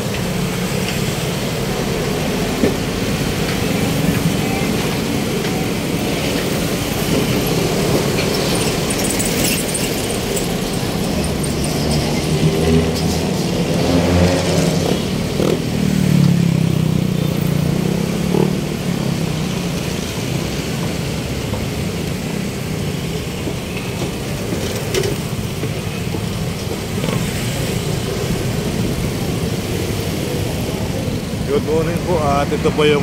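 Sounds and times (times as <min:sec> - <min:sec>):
passing vehicle engines: 0:00.0 - 0:33.0
traffic hum: 0:00.0 - 0:33.0.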